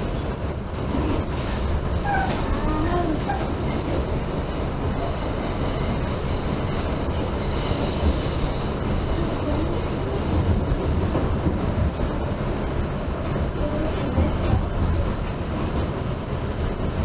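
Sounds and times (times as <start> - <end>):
subway train rumbling on rails: 0.0 - 17.0.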